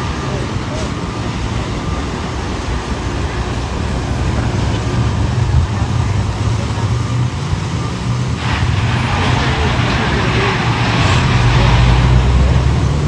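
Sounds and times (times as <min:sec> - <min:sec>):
road traffic rumble: 0:00.0 - 0:13.0
vehicle engine idling: 0:00.0 - 0:13.0.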